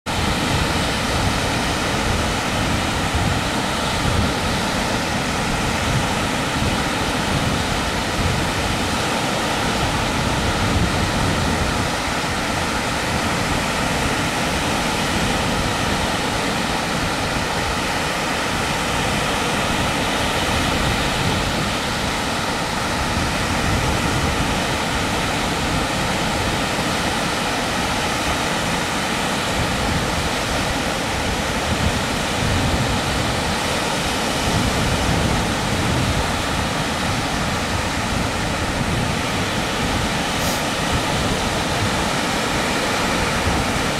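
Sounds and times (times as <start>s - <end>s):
waves breaking on beach: 0.0s - 43.9s
wind buffeting microphone: 0.1s - 43.9s.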